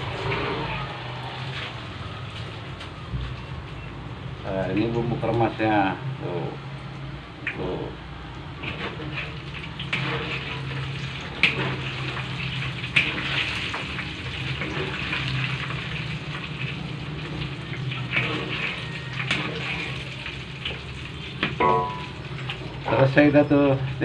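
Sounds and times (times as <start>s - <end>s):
oil sizzling in a wok: 0.0s - 3.8s, 8.5s - 24.0s.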